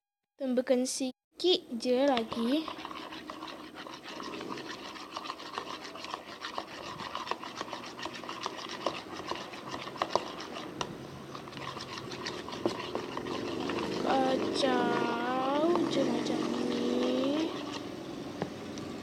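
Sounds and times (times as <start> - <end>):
slime being stirred: 1.9 - 18.0.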